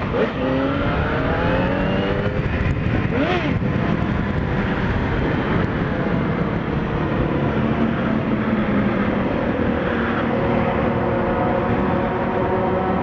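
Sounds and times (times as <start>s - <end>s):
motorcycle engine hum: 0.0s - 13.0s
wind rush on microphone: 0.0s - 13.0s.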